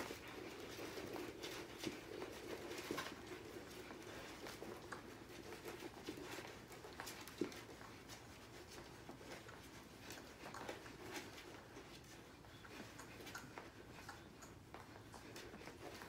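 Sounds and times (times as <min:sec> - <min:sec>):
puppies suckling: 0:00.0 - 0:16.0.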